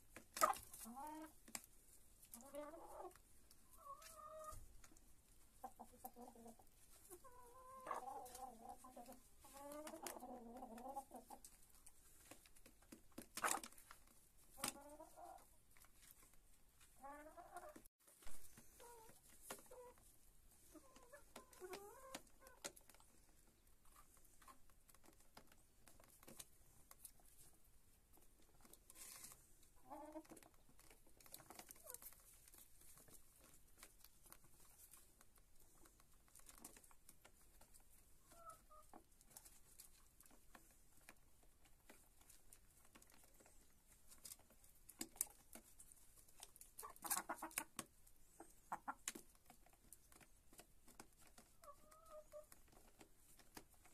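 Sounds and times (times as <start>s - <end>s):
hens clucking softly: 0.3s - 27.5s, 28.1s - 53.9s.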